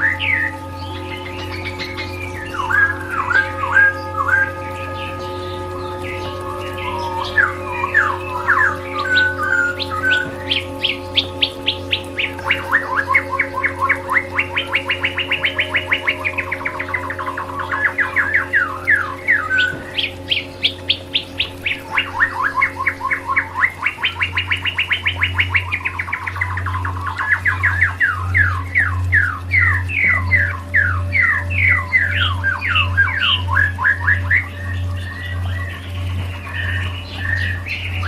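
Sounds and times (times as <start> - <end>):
songbird trilling: 0.0 - 38.0
steady low hum: 0.0 - 38.0.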